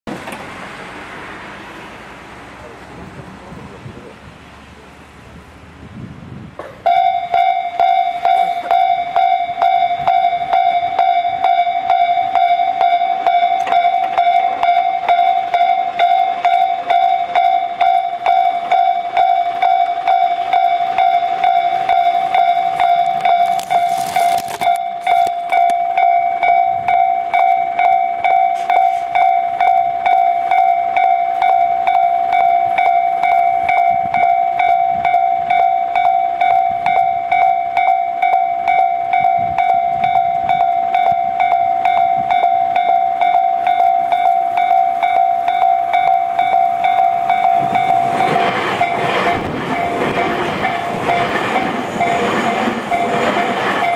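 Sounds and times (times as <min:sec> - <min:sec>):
train rumbling past: 0:00.1 - 0:53.9
level crossing alarm ringing: 0:06.8 - 0:53.9.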